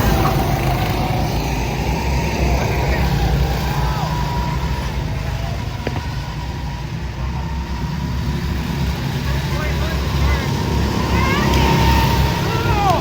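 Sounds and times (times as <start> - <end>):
motor engines rumbling: 0.0 - 13.0.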